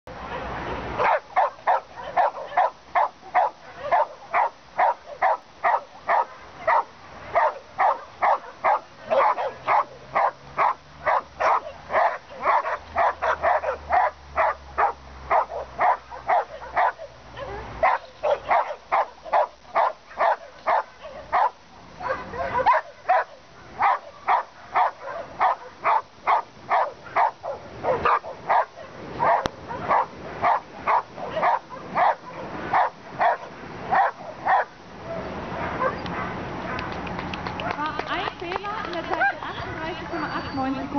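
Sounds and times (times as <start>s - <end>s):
dog barking rapidly: 1.0s - 36.9s.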